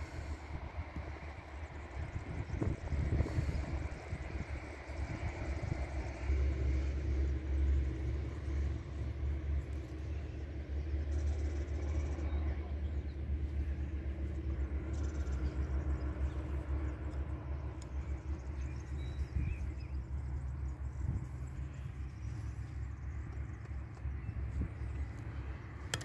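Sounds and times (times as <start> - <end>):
wind buffeting microphone: 0.0 - 9.3, 14.4 - 26.0
low rumble: 0.0 - 26.0.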